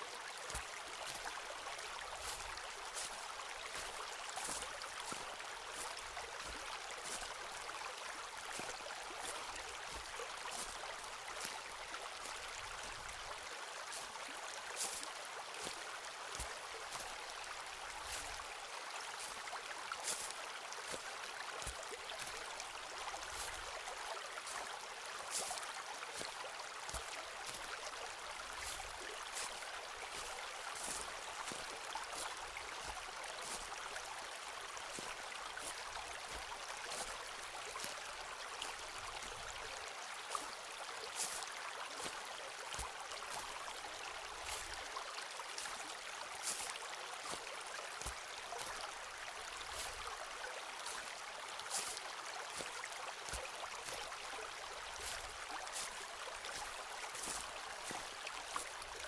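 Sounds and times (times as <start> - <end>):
stream water running: 0.0 - 59.0
footsteps on forest path: 0.2 - 59.0.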